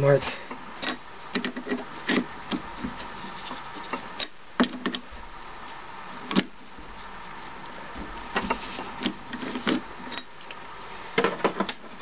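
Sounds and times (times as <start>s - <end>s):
plastic threads rubbing and scraping: 0.2s - 12.0s.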